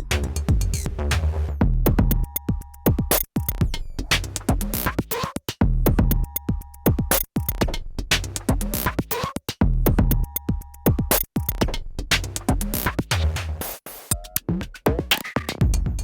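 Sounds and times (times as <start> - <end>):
fast electronic drum beat: 0.0 - 16.0.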